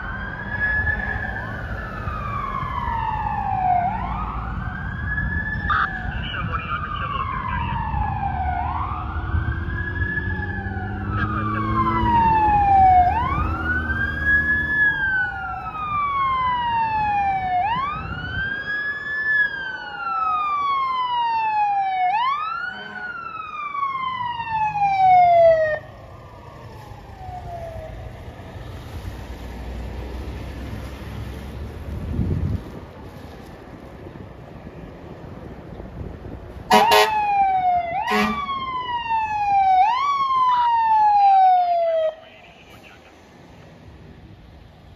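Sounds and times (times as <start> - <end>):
fire truck siren wailing: 0.0 - 31.1, 36.0 - 43.2.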